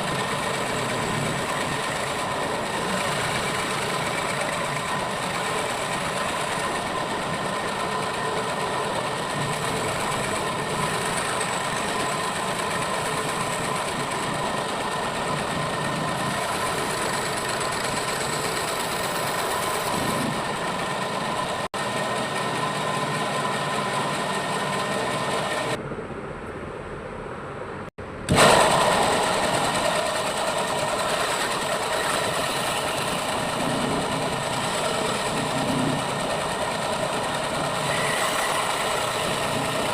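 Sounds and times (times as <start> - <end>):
electric woodworking power tool: 0.0 - 25.8, 28.3 - 39.9.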